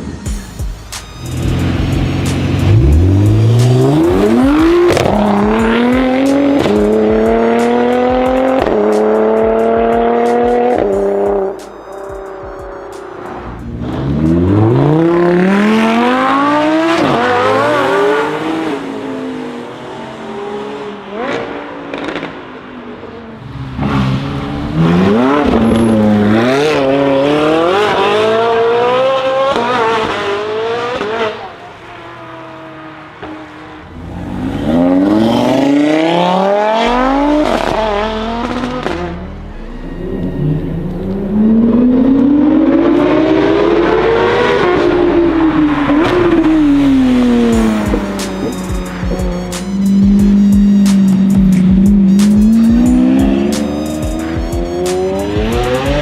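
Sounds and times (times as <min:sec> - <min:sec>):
car engine accelerating hard: 0:01.3 - 0:11.6, 0:13.7 - 0:56.0.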